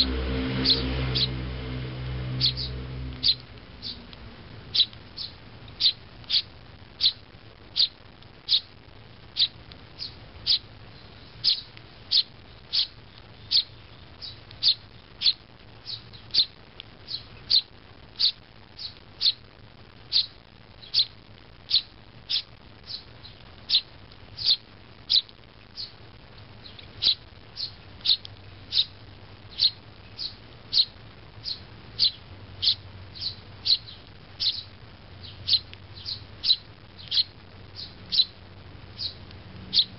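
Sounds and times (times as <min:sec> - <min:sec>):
sparrow fledgling chirping: 0:00.0 - 0:26.0, 0:26.6 - 0:39.9.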